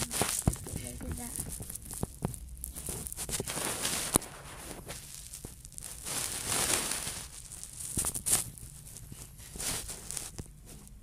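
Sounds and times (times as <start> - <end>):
phone rustling on fabric: 0.0 - 11.0.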